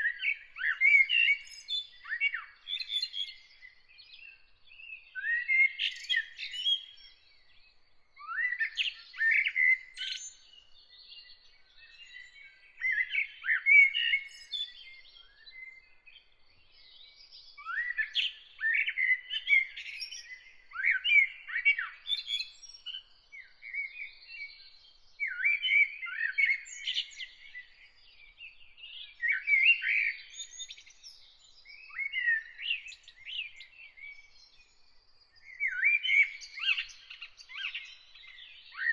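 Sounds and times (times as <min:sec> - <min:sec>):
songbird chirping and warbling: 0:00.0 - 0:38.9.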